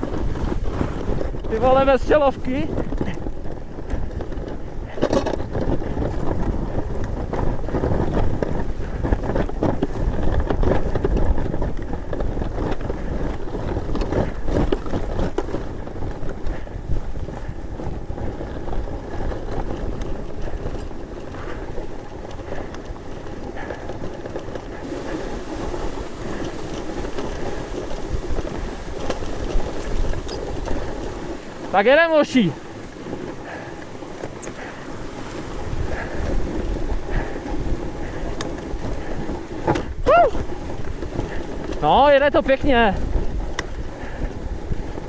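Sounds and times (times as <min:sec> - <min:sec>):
sled skis rushing through snow: 0:00.0 - 0:45.0
wind buffeting microphone: 0:00.0 - 0:45.0.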